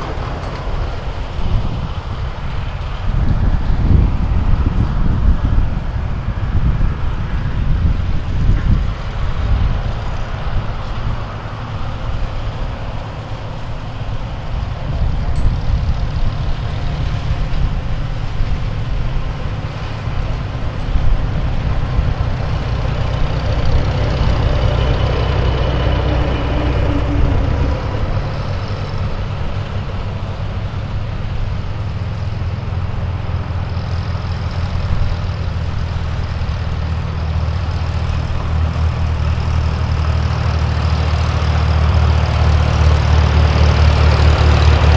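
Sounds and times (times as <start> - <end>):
tractor engine humming: 0.0 - 44.9.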